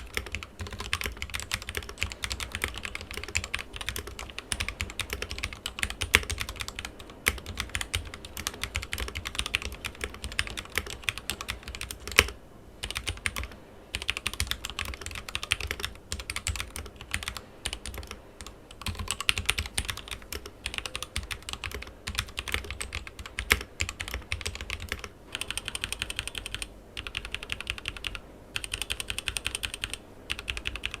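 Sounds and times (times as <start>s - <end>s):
mechanical keyboard typing: 0.0s - 31.0s.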